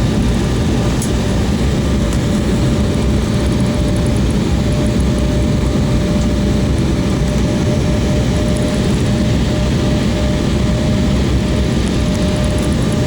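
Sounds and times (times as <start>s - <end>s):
airliner cabin engine rumble: 0.0s - 13.0s
faint even whine: 0.0s - 13.0s.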